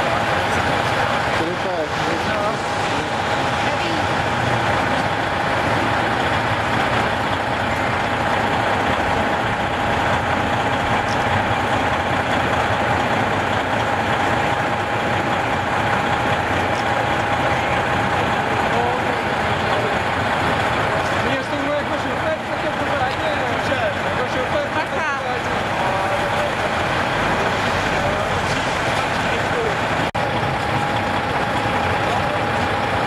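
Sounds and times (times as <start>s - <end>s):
constant engine whine: 0.0s - 33.0s
diesel truck engine idling: 0.0s - 33.0s.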